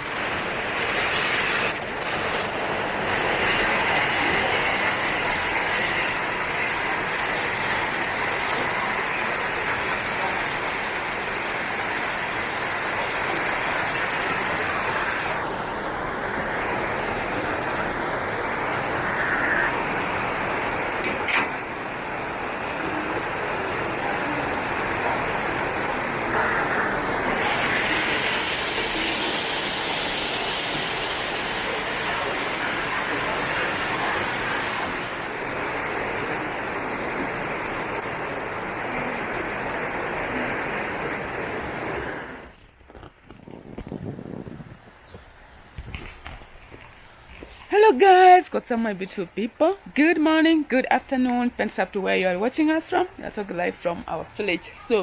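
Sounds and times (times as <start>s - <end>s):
rain hissing: 0.0s - 48.8s.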